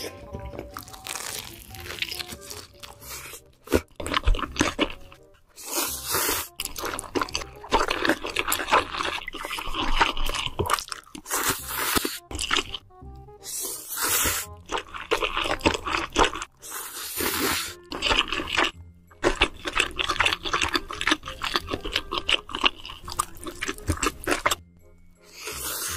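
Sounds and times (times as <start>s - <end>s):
quiet background music: 0.0s - 25.9s
noodles slurped wetly: 0.8s - 12.8s, 13.4s - 24.6s.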